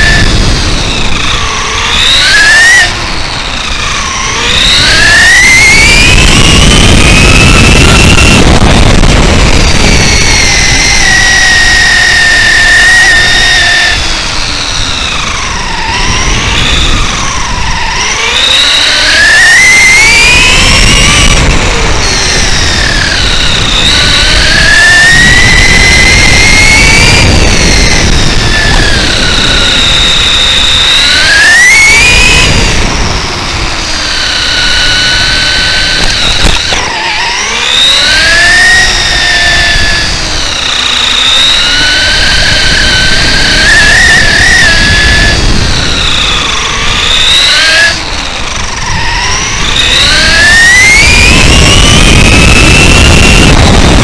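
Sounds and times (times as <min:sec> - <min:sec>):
electric motor whining: 0:00.0 - 0:54.0
rough rumble: 0:00.0 - 0:54.0.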